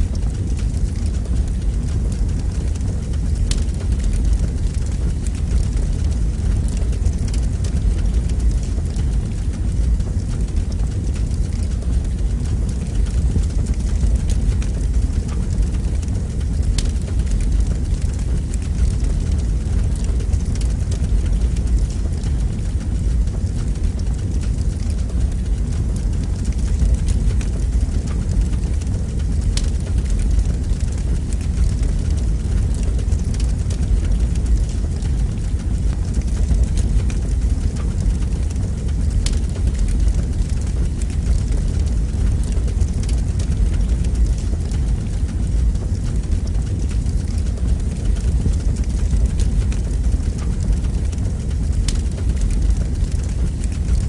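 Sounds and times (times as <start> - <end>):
fire crackling pops: 0.0 - 54.0
fire rumbling in fireplace: 0.0 - 54.0.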